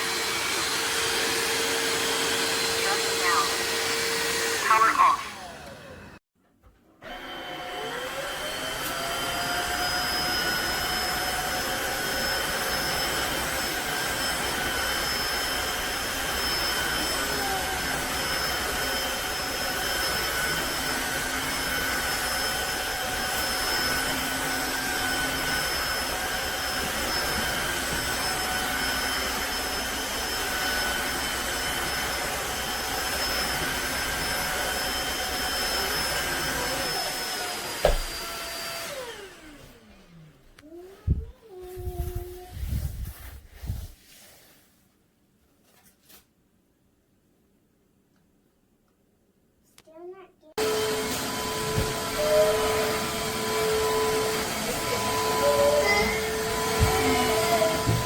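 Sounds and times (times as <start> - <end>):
floor vacuum motor whine: 0.0 - 6.2, 7.0 - 43.8, 50.6 - 58.0.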